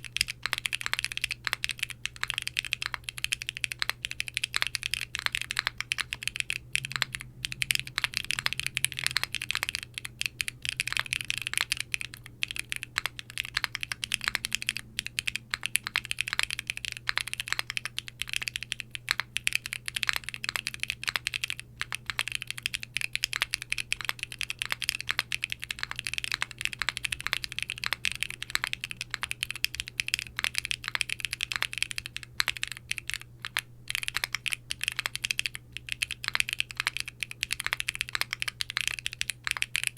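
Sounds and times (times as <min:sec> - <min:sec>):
faint low hum: 0:00.0 - 0:39.9
mechanical keyboard typing: 0:00.0 - 0:39.9.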